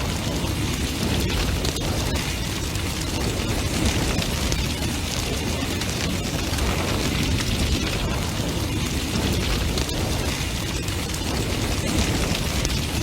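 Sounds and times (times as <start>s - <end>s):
burning wood crackling and popping: 0.0s - 13.0s
low rumble of flames: 0.0s - 13.0s.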